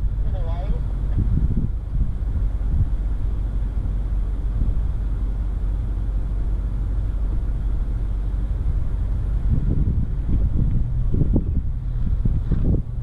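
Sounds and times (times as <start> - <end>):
off-road vehicle engine rumble: 0.0 - 13.0.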